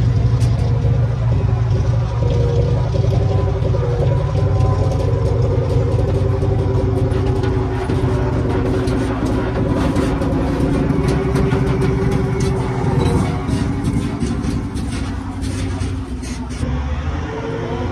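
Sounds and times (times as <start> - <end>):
large vehicle engine running: 0.0 - 17.9.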